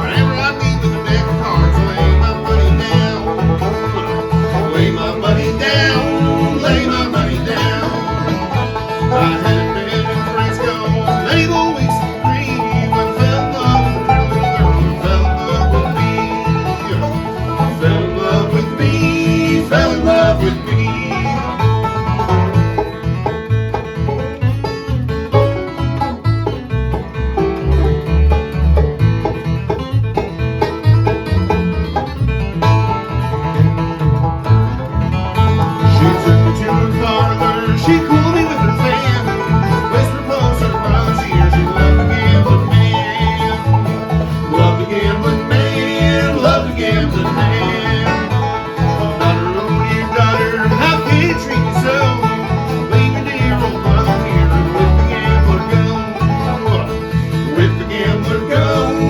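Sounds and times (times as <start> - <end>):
bass notes on the beat: 0.0 - 59.0
bluegrass band playing: 0.0 - 59.0
fast banjo picking: 0.0 - 59.0.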